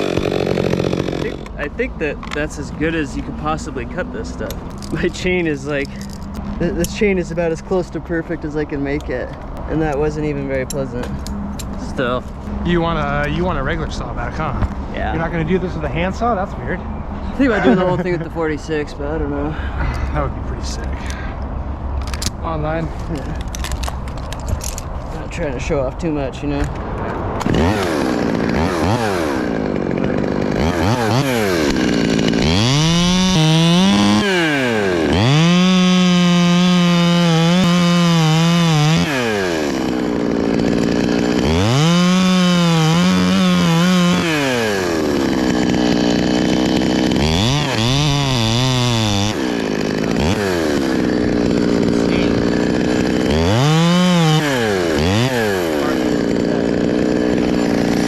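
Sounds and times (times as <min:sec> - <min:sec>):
chainsaw revving and cutting wood: 0:00.0 - 0:07.9, 0:09.0 - 0:16.7, 0:17.3 - 0:18.5, 0:27.3 - 0:58.0.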